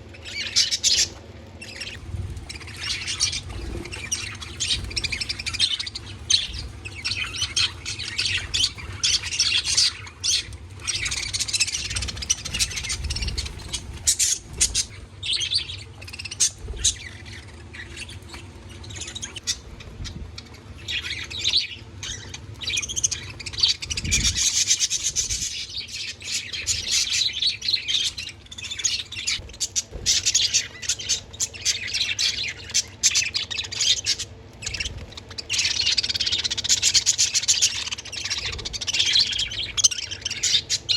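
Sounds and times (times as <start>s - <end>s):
budgies chirping and chattering: 0.0s - 40.9s.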